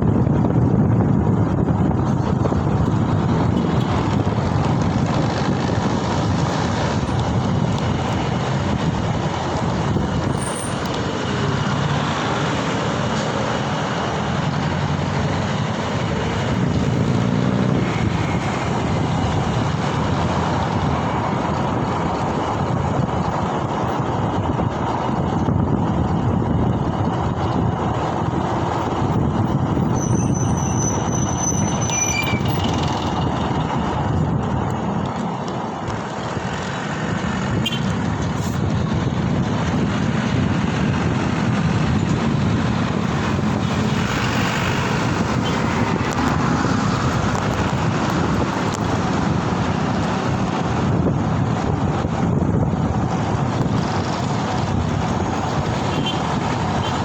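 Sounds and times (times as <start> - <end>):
road traffic noise: 0.0 - 57.0
wind rushing over microphone: 0.0 - 57.0.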